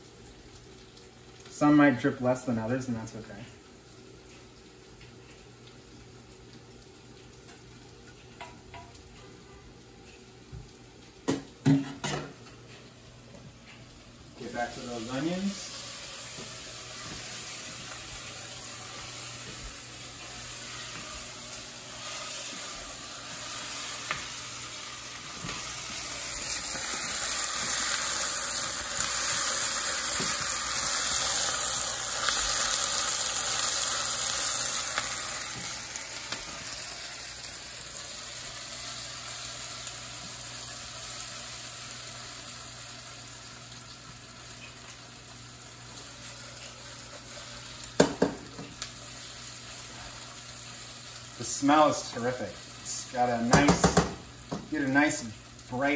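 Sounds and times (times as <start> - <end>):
onions sizzling in a pan: 0.0 - 55.9.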